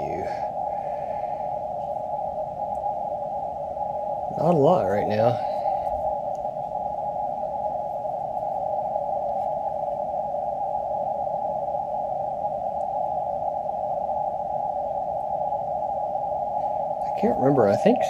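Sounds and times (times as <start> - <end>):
radio band noise hiss: 0.0 - 10.7, 13.2 - 18.0.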